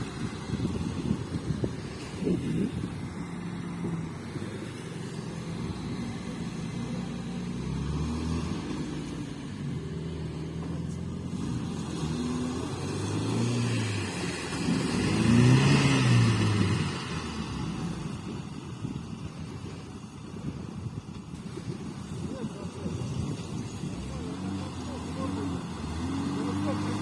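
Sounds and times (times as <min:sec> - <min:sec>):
off-road vehicle engine revving: 0:00.0 - 0:18.9, 0:21.4 - 0:27.0.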